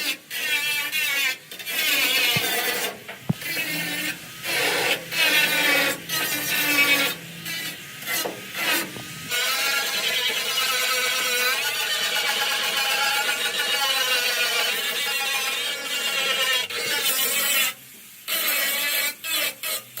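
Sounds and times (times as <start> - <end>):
tool rasping on a surface: 0.0 - 20.0.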